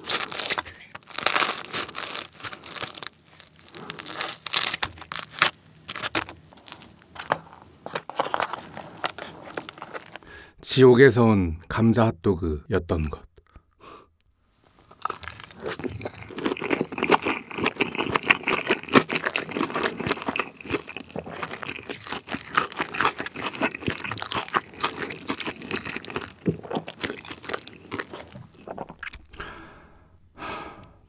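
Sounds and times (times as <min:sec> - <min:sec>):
wet crunchy chewing: 0:00.0 - 0:10.3, 0:14.7 - 0:30.0.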